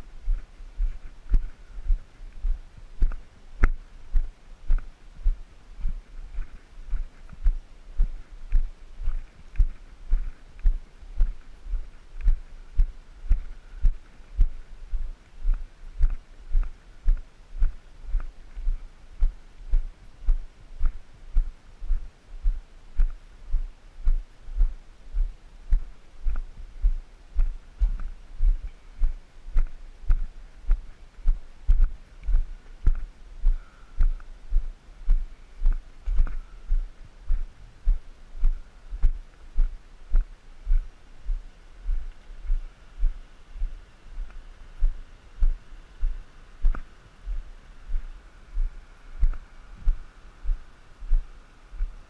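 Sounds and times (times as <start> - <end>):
footsteps on gravel: 0.2 - 23.2, 24.1 - 43.2.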